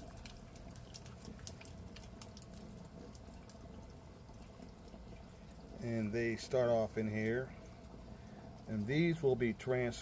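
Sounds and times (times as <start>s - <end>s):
low steady hum: 0.0s - 10.0s
water dripping and bubbling: 0.0s - 10.0s.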